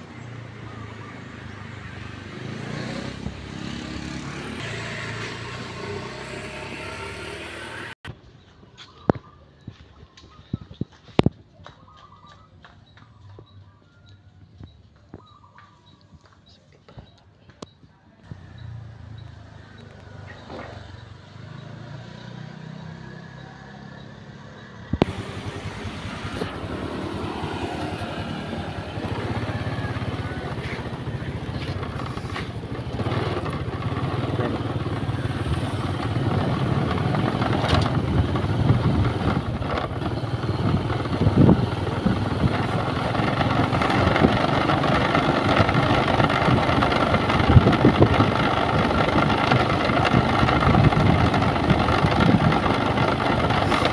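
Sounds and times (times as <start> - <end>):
motorcycle engine rumble: 0.0 - 53.9
road and wind noise: 0.0 - 53.9.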